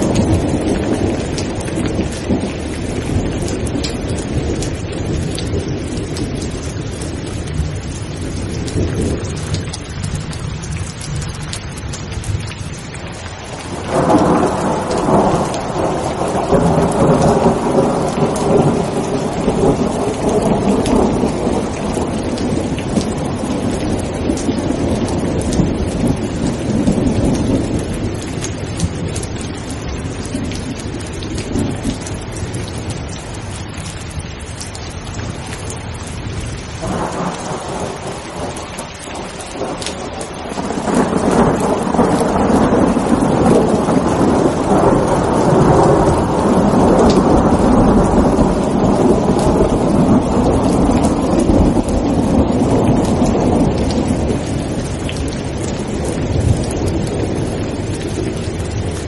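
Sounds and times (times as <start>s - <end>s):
rolling thunder: 0.0s - 12.6s, 13.5s - 34.3s, 35.2s - 59.0s
heavy rain: 0.0s - 59.0s.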